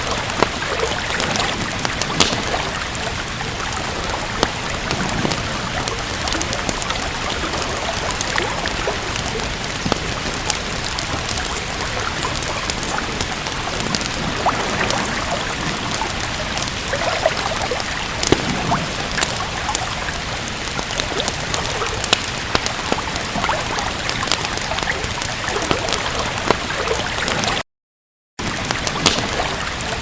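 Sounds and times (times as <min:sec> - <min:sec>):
steady rain: 0:00.0 - 0:27.6, 0:28.4 - 0:30.0
water trickling: 0:00.0 - 0:27.6
wood fire crackling: 0:00.0 - 0:27.6, 0:28.4 - 0:30.0.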